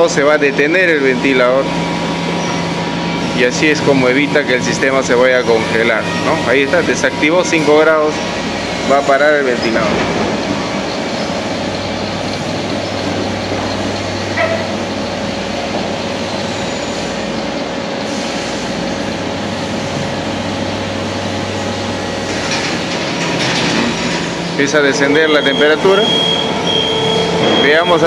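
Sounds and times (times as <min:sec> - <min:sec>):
air dryer machine noise: 0:00.0 - 0:12.7, 0:18.1 - 0:28.0.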